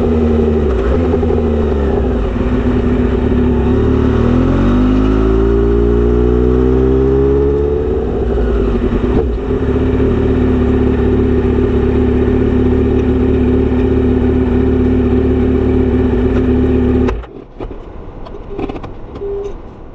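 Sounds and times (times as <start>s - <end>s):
motorcycle engine revving: 0.0s - 17.2s.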